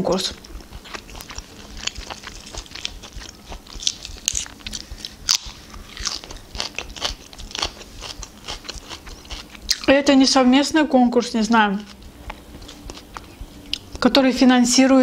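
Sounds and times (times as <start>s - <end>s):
person chewing crunchy food: 0.2s - 10.0s, 11.6s - 14.0s.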